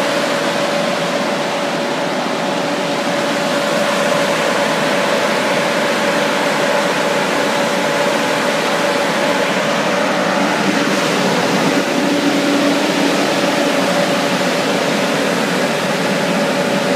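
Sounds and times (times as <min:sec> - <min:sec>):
sprayer fan blowing air: 0:00.0 - 0:16.9
tractor engine: 0:00.0 - 0:16.9.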